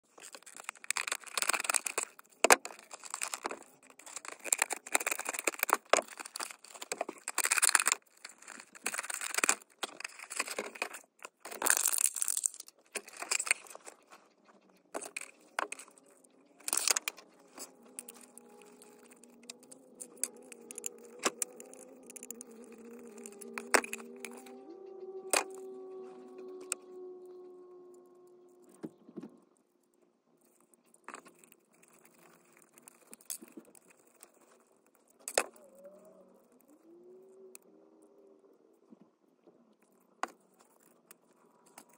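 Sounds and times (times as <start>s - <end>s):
plastic packaging crinkling and tearing: 0.0s - 28.7s, 30.5s - 37.5s.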